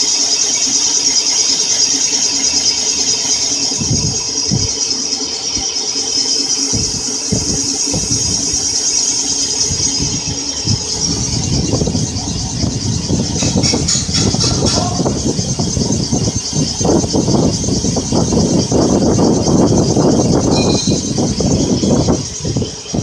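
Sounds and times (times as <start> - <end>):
boring machine humming: 0.0 - 23.0
high machine whine: 0.0 - 23.0.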